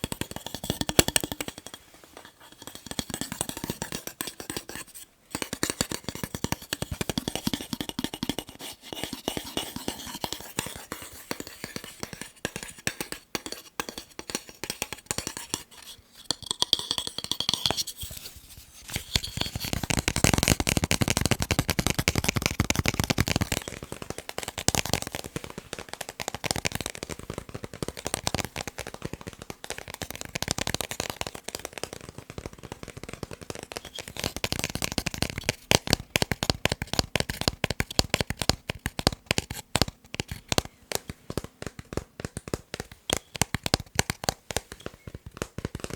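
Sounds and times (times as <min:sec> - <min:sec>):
fingers tapping on picture frames: 0:00.0 - 0:18.0, 0:18.9 - 0:45.9.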